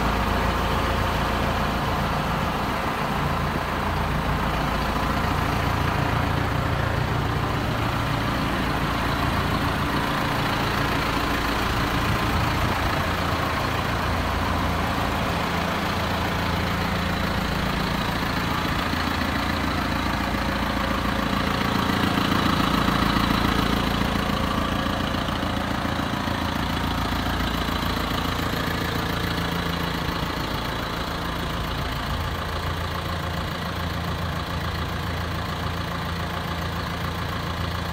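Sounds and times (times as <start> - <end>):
tractor diesel engine idling: 0.0 - 37.9.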